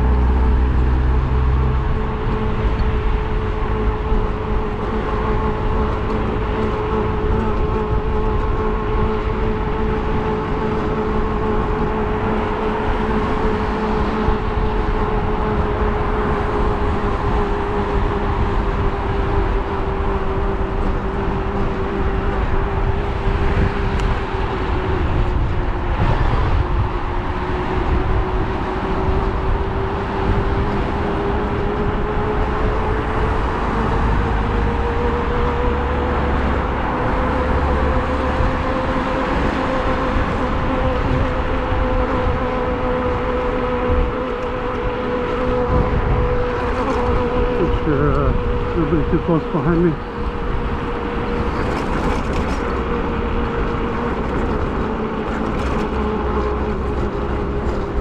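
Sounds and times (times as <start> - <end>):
low wind rumble: 0.0 - 58.0
road noise: 0.0 - 58.0
electric bike motor whining: 1.0 - 58.0.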